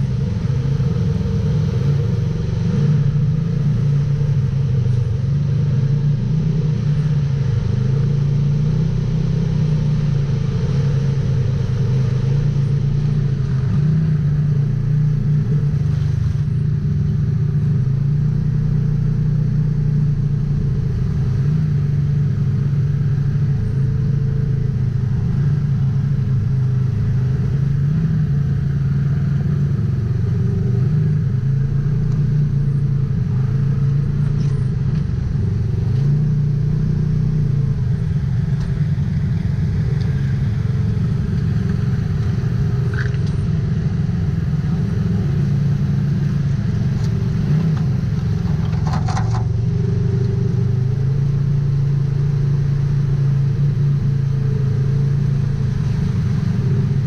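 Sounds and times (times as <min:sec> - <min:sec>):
engine droning while driving: 0:00.0 - 0:57.0.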